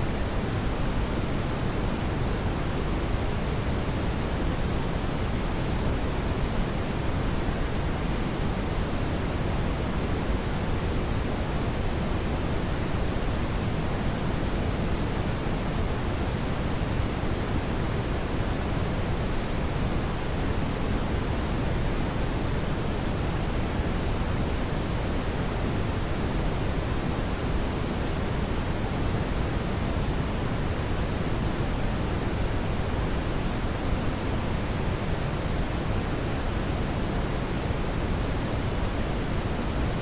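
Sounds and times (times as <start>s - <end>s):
brown noise hiss: 0.0s - 40.0s.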